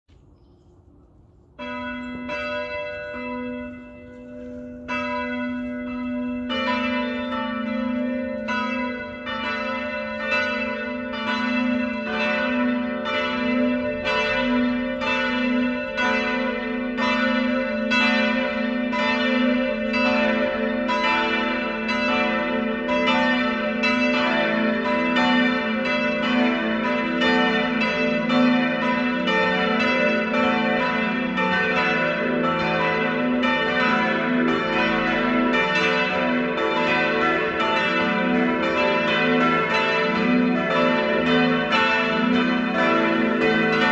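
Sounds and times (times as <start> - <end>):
church bells pealing: 1.6 - 43.9.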